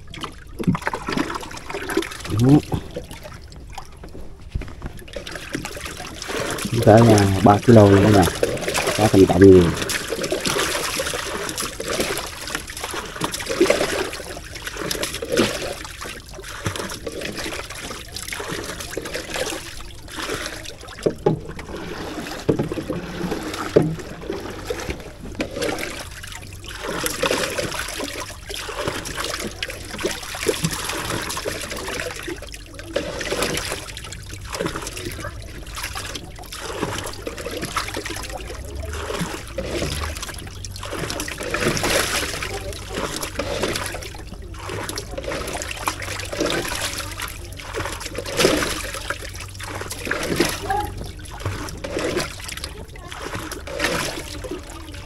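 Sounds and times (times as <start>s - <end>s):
fish thrashing in water: 0.0s - 55.0s
water splashing and trickling: 0.0s - 55.0s.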